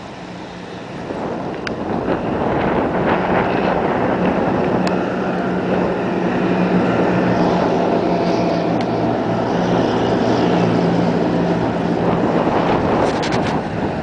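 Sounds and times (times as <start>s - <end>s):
engine drone: 0.0s - 14.0s
wind on microphone: 0.0s - 14.0s.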